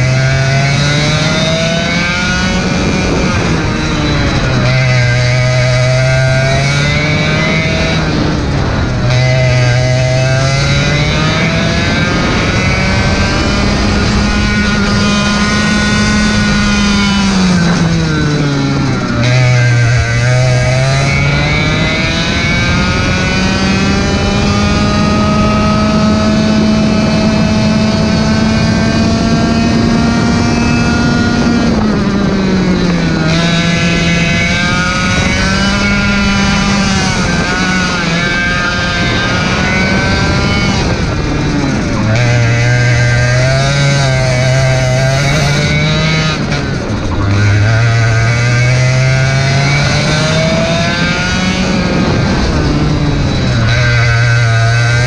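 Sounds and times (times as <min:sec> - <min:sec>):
kart engine at full throttle: 0:00.0 - 0:55.0.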